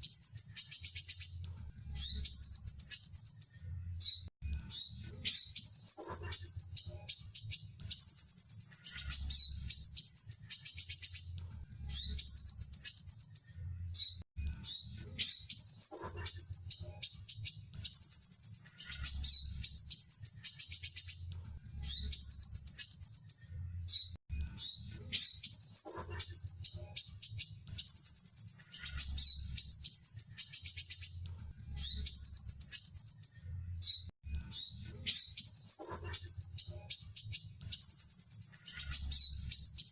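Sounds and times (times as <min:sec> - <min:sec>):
bird trilling song: 0:00.0 - 0:39.9.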